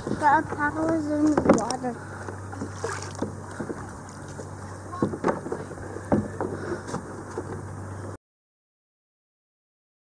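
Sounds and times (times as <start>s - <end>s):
steady low hum: 0.0s - 8.2s
water lapping against boat: 0.0s - 8.2s.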